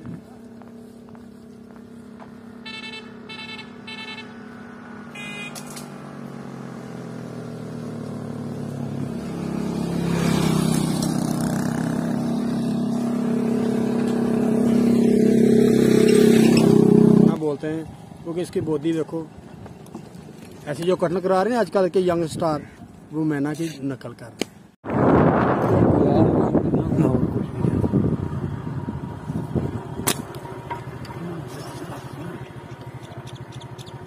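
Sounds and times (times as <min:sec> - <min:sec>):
vehicle engine humming: 0:00.0 - 0:21.5, 0:26.4 - 0:34.0.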